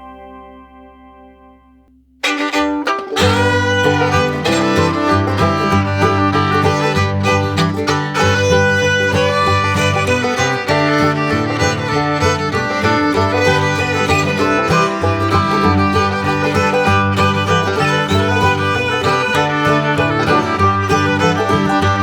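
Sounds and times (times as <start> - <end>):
fiddle and plucked strings music: 2.2 - 22.0.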